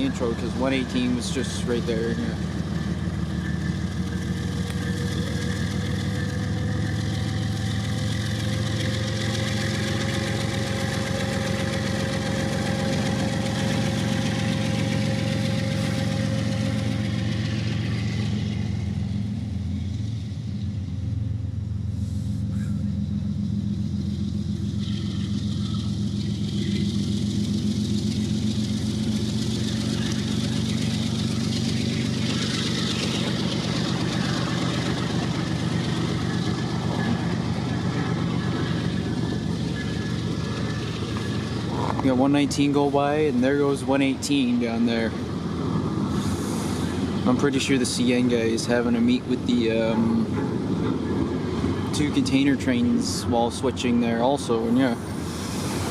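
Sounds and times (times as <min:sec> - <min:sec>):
diesel locomotive engines droning: 0:00.0 - 0:55.9
train wheels rolling on rails: 0:00.0 - 0:55.9.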